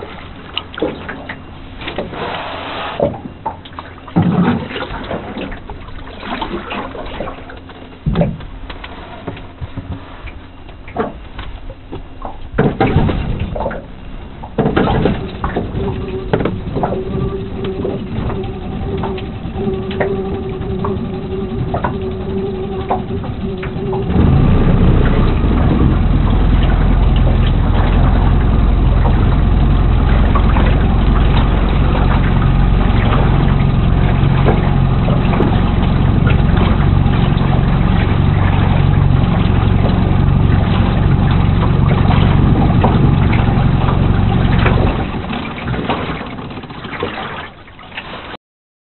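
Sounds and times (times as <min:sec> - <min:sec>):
motor engine running: 0:00.0 - 0:47.1.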